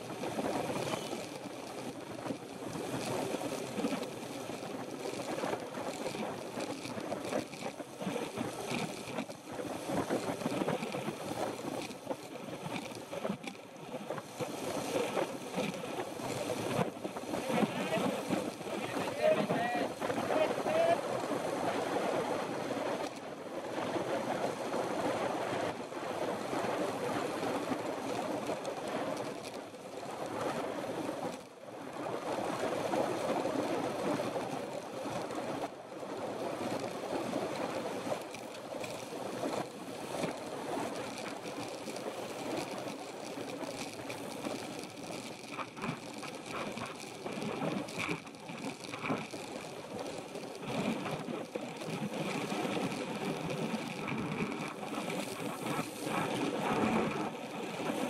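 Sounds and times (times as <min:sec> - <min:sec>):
bicycle tyre noise on asphalt: 0:00.0 - 0:58.0.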